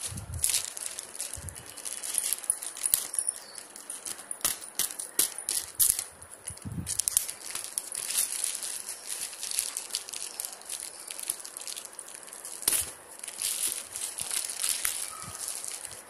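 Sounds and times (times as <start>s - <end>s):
plastic bag tearing and crinkling: 0.0s - 6.0s, 6.6s - 16.0s.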